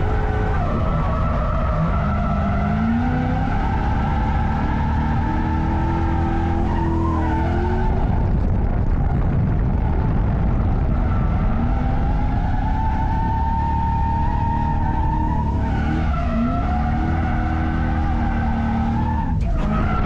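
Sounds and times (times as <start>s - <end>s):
car engine revving hard: 0.0s - 8.6s, 9.4s - 20.0s
skidding tyre and road noise: 0.0s - 20.0s.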